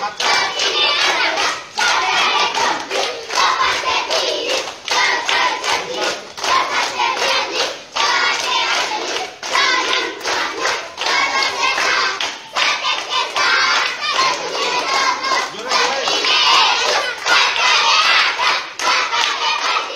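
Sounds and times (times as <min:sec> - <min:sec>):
children chanting: 0:00.0 - 0:19.9
children clapping: 0:00.0 - 0:19.9.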